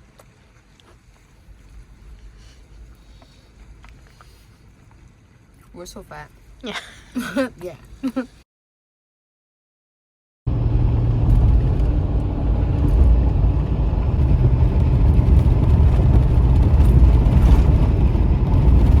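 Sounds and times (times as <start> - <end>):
motor vehicle rumble: 1.1 - 8.2, 10.5 - 19.0.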